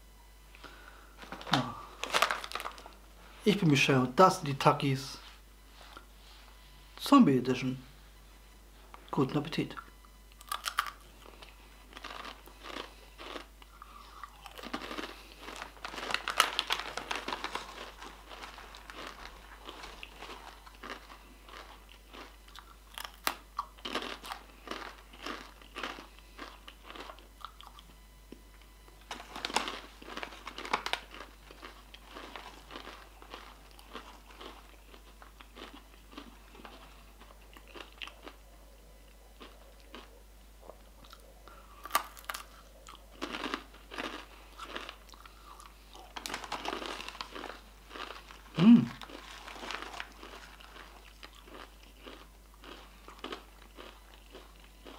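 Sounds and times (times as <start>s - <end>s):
person chewing crunchy chip: 0.6s - 3.0s, 10.3s - 27.9s, 29.1s - 54.9s.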